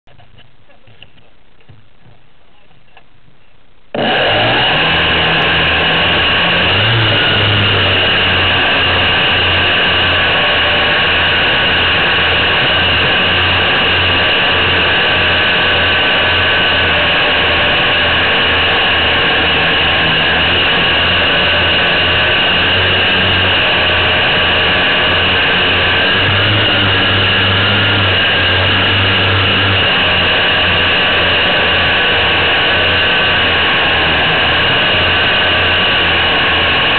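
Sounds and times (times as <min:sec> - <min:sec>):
model plane motors whining: 0:04.0 - 0:36.9.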